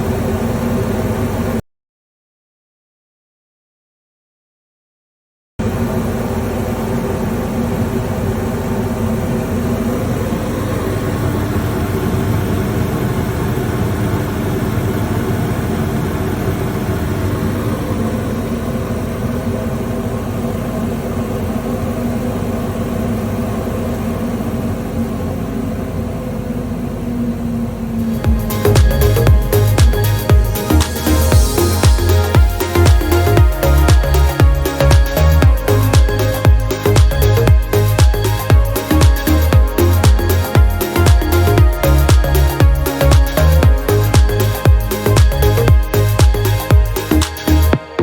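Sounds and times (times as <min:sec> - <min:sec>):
extraction fan rushing hum: 0:05.6 - 0:48.0.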